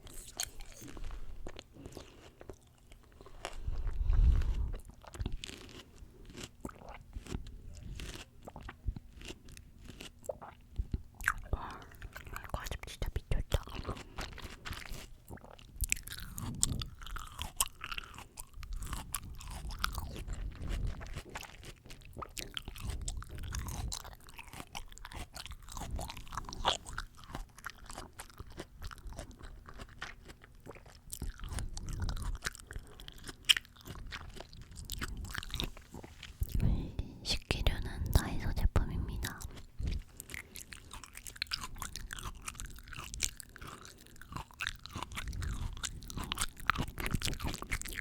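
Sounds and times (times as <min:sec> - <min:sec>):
chewing fresh fruit: 0:00.0 - 0:48.0.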